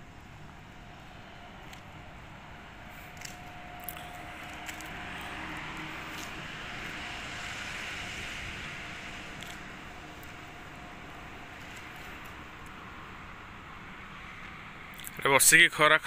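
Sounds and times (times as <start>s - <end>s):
distant engine noise: 0.0s - 16.0s
faint steady hum: 0.0s - 16.0s.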